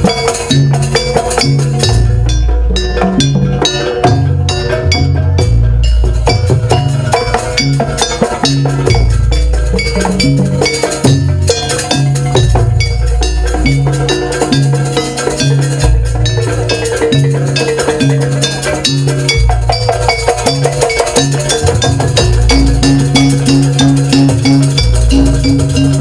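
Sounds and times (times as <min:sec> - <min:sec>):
drumming: 0:00.0 - 0:26.0
gamelan ensemble playing: 0:00.0 - 0:26.0.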